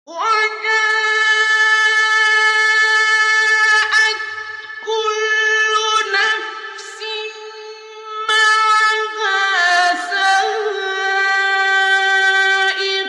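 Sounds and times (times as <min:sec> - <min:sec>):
man chanting: 0:00.1 - 0:13.0.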